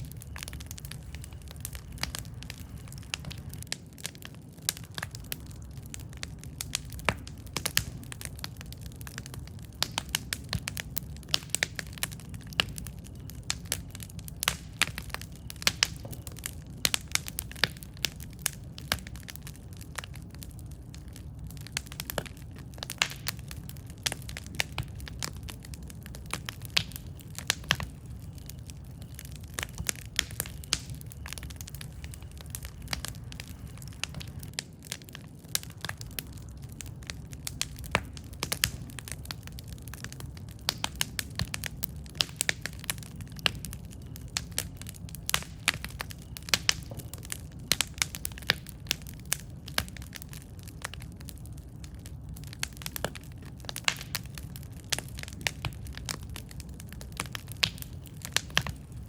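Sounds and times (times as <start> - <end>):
burning wood popping and snapping: 0.0 - 59.0
campfire crackling: 0.0 - 59.0
low rumble of flames: 0.0 - 59.0.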